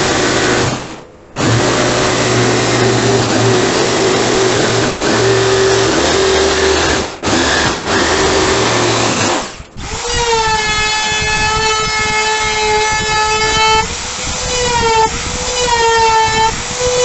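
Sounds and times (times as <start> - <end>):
jigsaw cutting plywood: 0.0 - 17.0
router high whine: 0.0 - 17.0.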